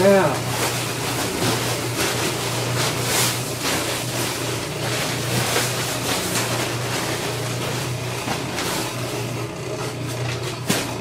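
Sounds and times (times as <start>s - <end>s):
plastic tarp rustling and crackling: 0.0s - 9.4s, 10.1s - 11.0s.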